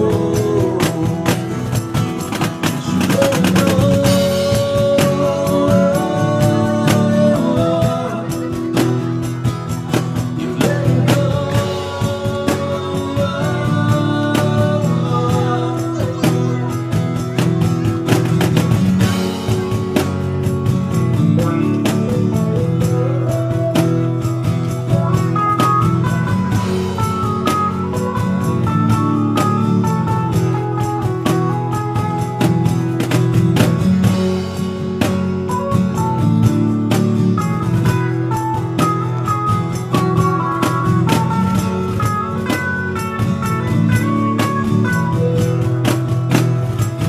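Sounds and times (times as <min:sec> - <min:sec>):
guitar melody over strummed chords: 0:00.0 - 0:47.0.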